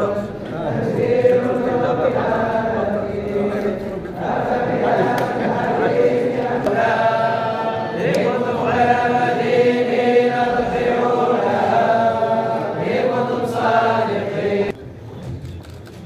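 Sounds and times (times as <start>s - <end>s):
men chanting in unison: 0.0s - 14.7s.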